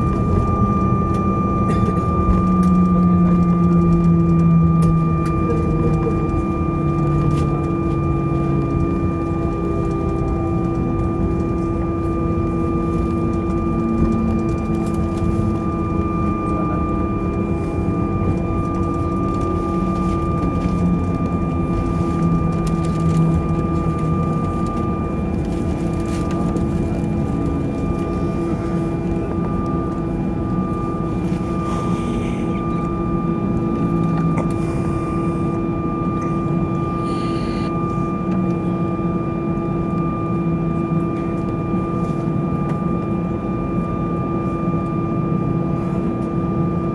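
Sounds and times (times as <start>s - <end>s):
whining tones: 0.0s - 40.9s
jet engines idling: 0.0s - 46.9s.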